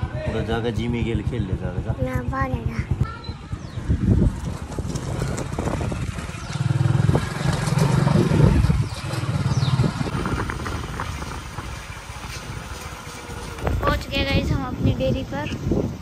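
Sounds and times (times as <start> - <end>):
small motorbike engine running: 2.5 - 15.8.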